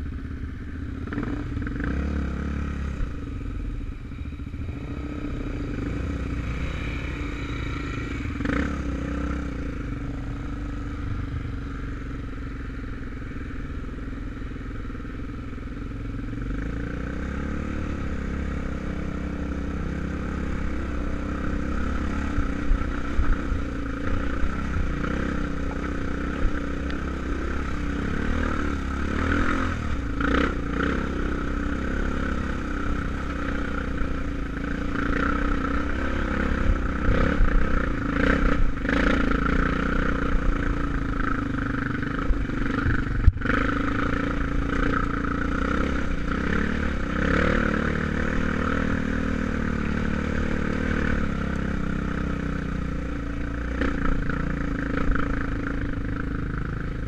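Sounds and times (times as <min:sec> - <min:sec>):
dirt bike engine revving: 0:04.6 - 0:12.1, 0:16.5 - 0:56.4.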